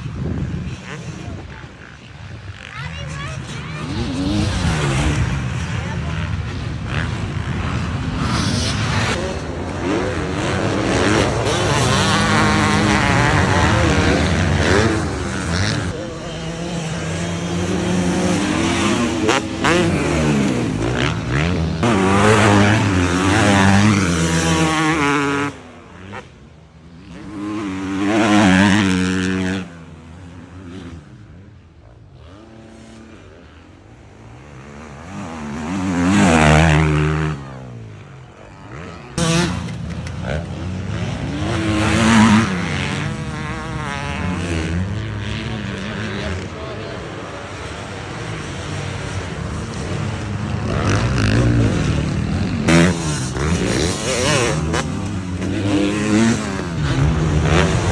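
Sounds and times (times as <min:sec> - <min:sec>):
motocross bikes revving: 0:00.0 - 0:57.9
motorbike passing close: 0:00.0 - 0:57.9.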